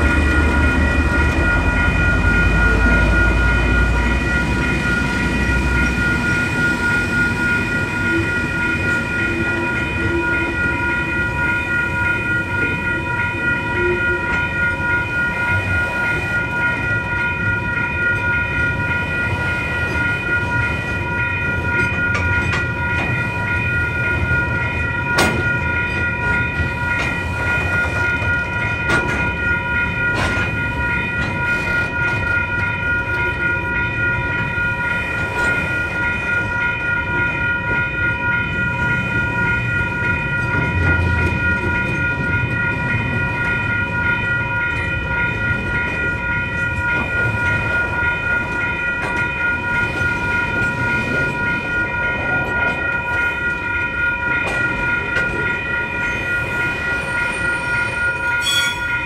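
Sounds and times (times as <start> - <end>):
crossing alarm bell ringing: 0.0 - 59.0
freight train rumbling past: 0.0 - 59.0.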